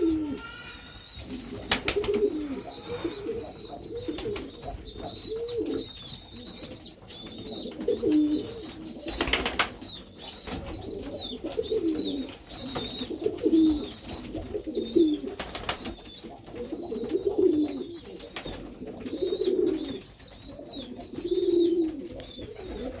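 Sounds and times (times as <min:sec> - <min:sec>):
pigeons cooing: 0:00.0 - 0:23.0
small birds chirping: 0:00.0 - 0:23.0.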